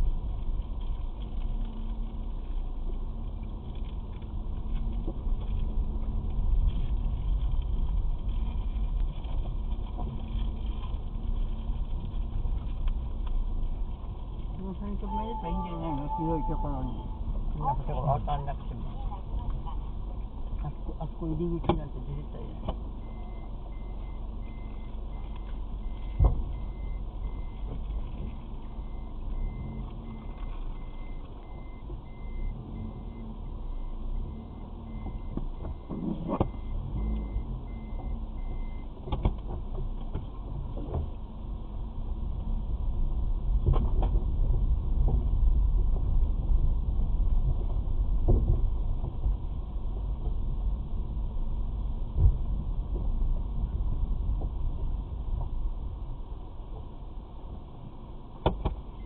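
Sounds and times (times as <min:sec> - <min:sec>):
road rumble inside car: 0:00.0 - 0:59.0.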